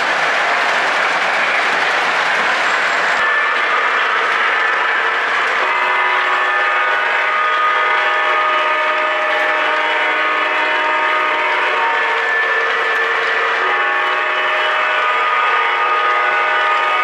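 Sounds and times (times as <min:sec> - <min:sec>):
model train rolling: 0:00.0 - 0:17.0.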